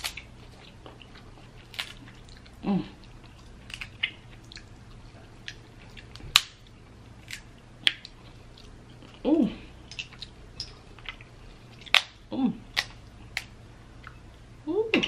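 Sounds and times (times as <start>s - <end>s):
person chewing seafood: 0.0s - 14.3s.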